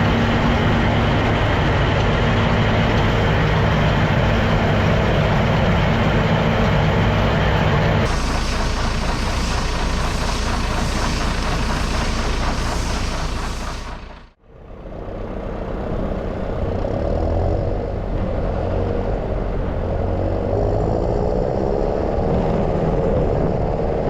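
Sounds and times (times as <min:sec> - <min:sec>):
tractor engine running: 0:00.0 - 0:20.5
noisy machinery running: 0:00.0 - 0:24.0.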